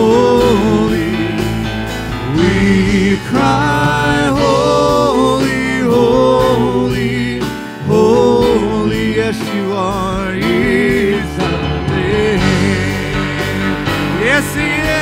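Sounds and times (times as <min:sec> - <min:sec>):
singers holding long notes: 0:00.0 - 0:15.0
worship band playing: 0:00.0 - 0:15.0.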